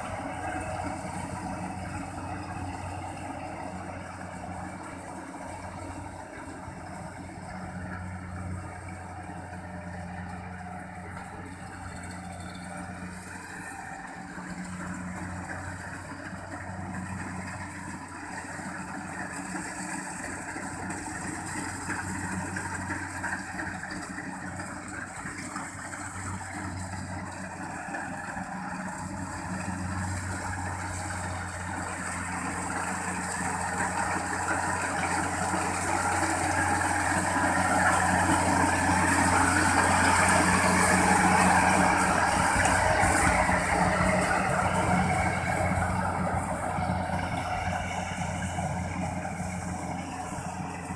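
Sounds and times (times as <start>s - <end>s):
combine harvester engine hum: 0.0s - 50.9s.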